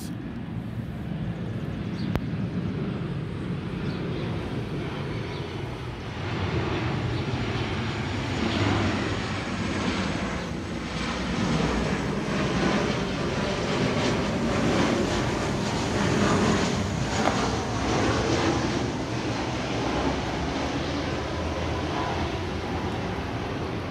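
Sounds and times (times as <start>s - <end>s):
jet airliner rumble overhead: 0.0s - 23.9s.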